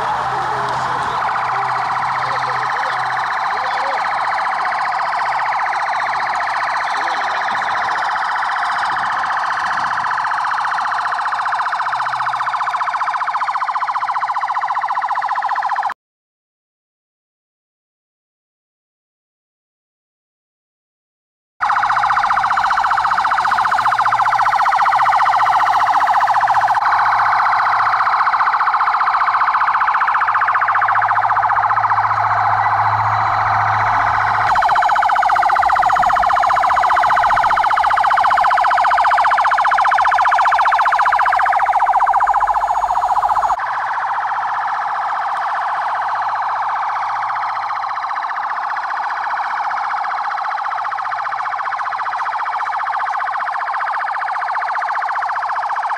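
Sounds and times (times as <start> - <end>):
police sirens wailing: 0.0 - 16.0, 21.6 - 55.9.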